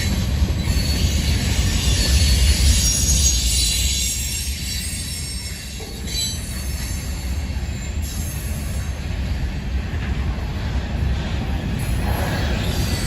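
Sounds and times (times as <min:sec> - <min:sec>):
freight train rumbling: 0:00.0 - 0:13.0
wheels squealing on rails: 0:00.0 - 0:13.0.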